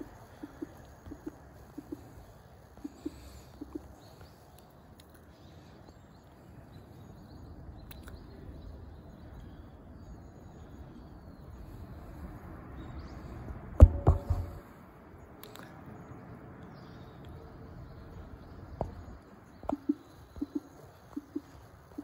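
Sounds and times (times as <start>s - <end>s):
faint outdoor rumble: 0.0s - 22.0s.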